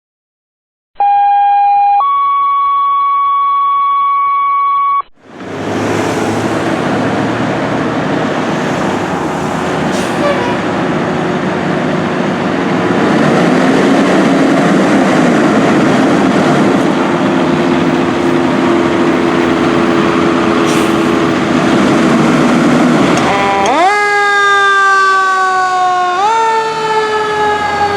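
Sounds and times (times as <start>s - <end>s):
fire engine diesel engine: 5.2s - 27.9s
road and wind noise: 5.2s - 27.9s.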